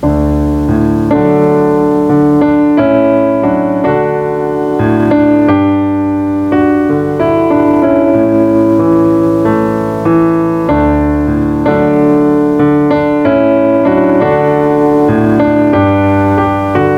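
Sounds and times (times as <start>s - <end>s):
slow piano-like keyboard chords: 0.0s - 16.9s.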